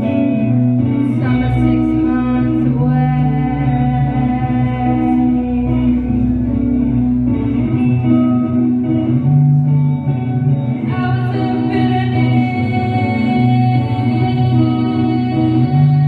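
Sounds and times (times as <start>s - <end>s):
person singing: 0.0s - 8.8s, 10.7s - 16.0s
ringing guitar chords: 0.0s - 16.0s.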